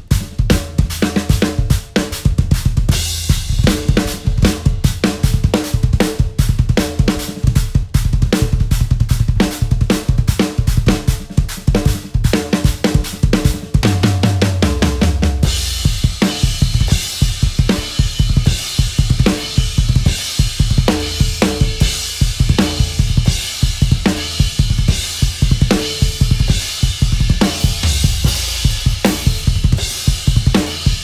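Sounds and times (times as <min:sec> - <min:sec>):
bass drum pedal strokes: 0:00.0 - 0:31.0
fast drum solo: 0:00.0 - 0:31.0.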